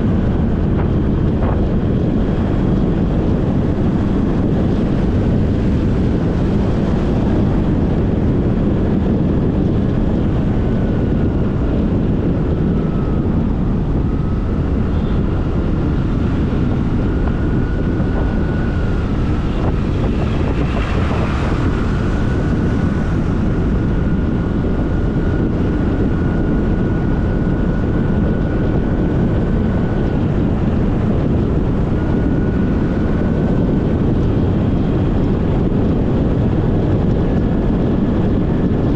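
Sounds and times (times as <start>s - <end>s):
scooter road noise: 0.0s - 38.9s
wind buffeting microphone: 0.0s - 38.9s.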